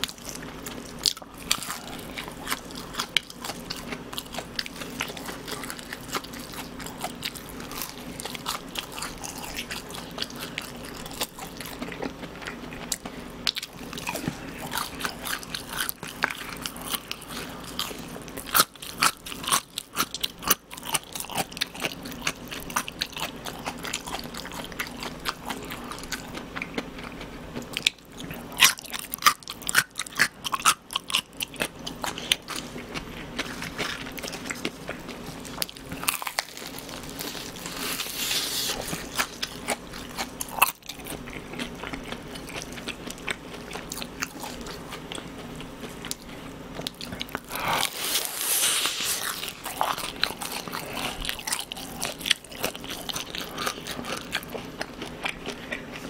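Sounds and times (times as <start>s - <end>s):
crunching and chewing crispy food: 0.0s - 56.0s.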